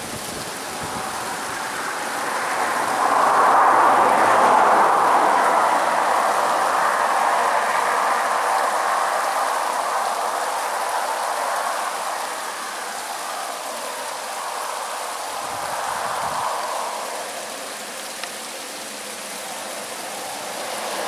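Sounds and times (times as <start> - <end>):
waterfall splashing down rocks: 0.0 - 21.0.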